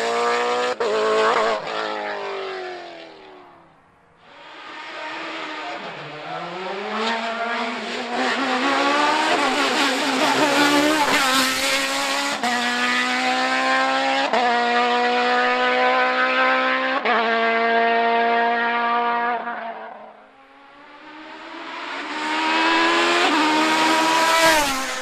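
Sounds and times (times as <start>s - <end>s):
racing car engine accelerating: 4.4s - 25.0s.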